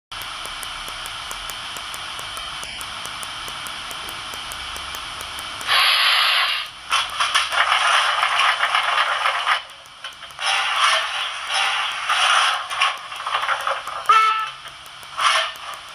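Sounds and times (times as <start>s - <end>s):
steam hiss from small loudspeaker: 0.2s - 15.9s.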